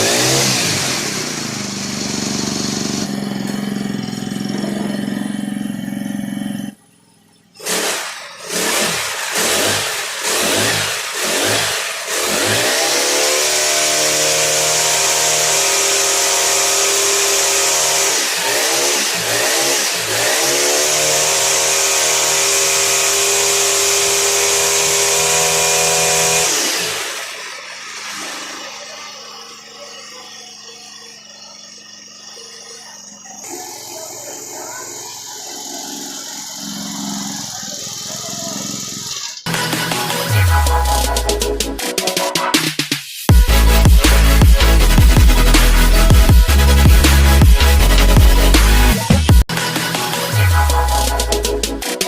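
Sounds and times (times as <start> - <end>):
brush cutter engine revving: 0.0 - 6.8, 7.6 - 42.0, 43.3 - 52.0.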